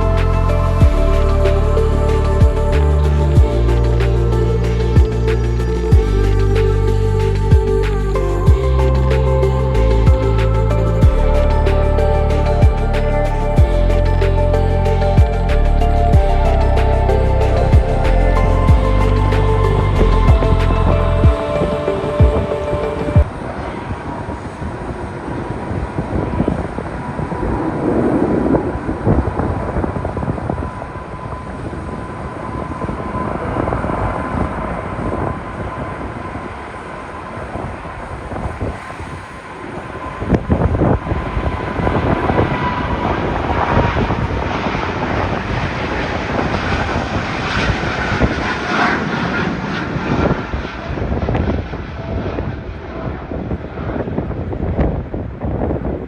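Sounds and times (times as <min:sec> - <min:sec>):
jet engines rushing with whine: 0:00.0 - 0:56.0.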